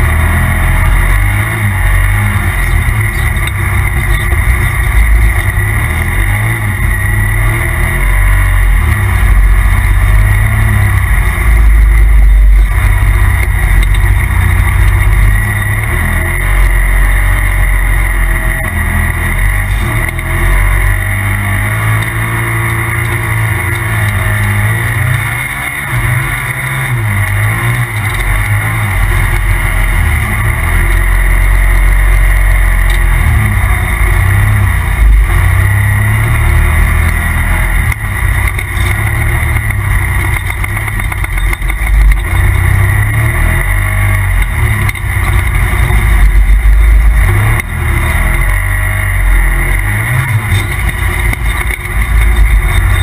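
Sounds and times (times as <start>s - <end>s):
engine revving: 0.0s - 53.0s.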